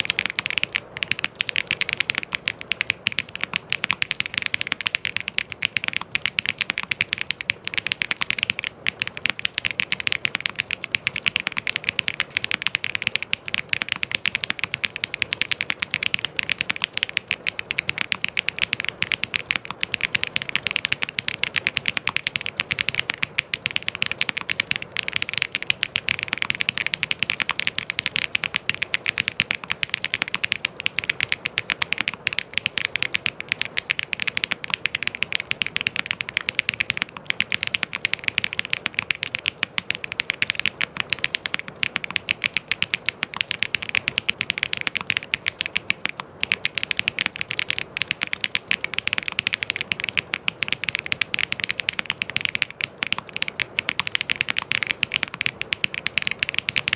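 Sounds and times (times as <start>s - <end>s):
mechanical keyboard typing: 0.0s - 56.9s.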